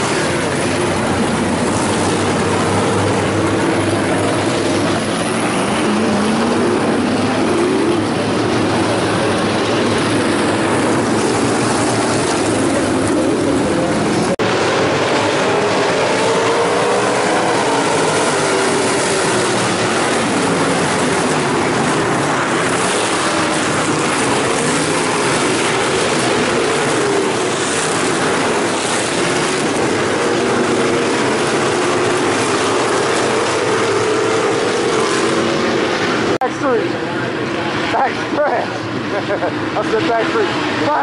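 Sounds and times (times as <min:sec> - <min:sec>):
race car engines droning: 0:00.0 - 0:41.0.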